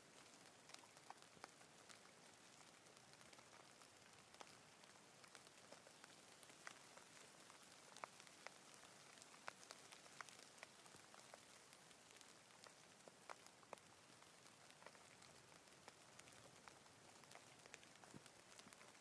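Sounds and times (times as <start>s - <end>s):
faint steady rain: 0.0s - 19.0s
raindrops ticking: 0.0s - 19.0s.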